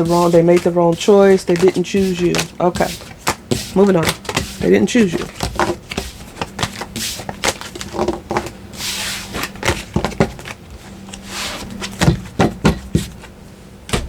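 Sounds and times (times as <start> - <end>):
cards tapping and clicking: 0.0 - 8.6, 9.2 - 13.3
cards riffling: 0.0 - 12.2.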